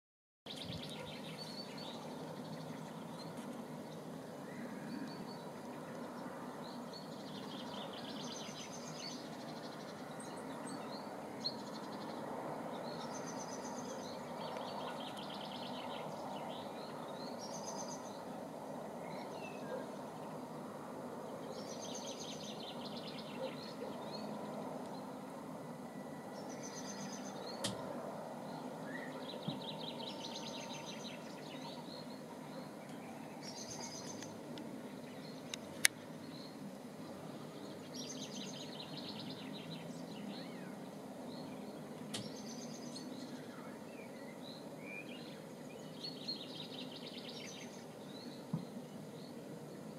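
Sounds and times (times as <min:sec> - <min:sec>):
steady background noise: 0:00.5 - 0:49.9.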